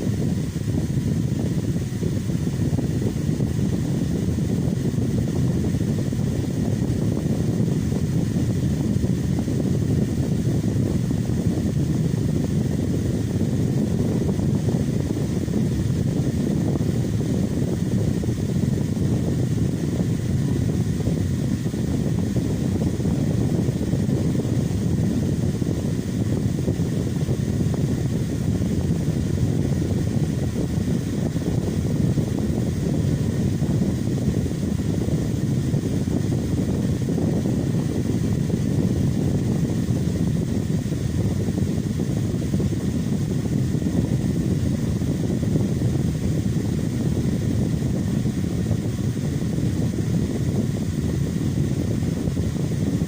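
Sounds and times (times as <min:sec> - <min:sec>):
electric fan running: 0:00.0 - 0:53.0.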